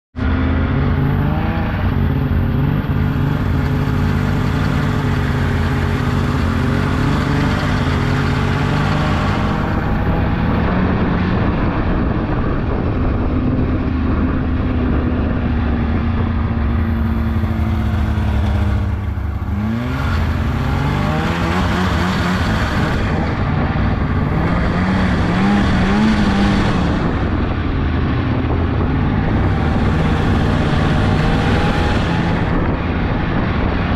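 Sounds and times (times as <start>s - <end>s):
snowmobile engine running: 0.2s - 33.9s.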